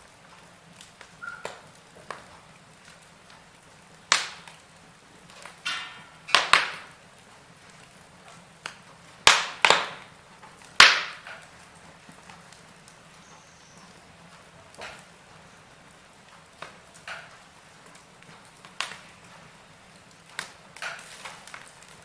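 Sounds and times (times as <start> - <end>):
fire hiss: 0.0 - 22.0
wood fire crackling and popping: 0.0 - 22.0.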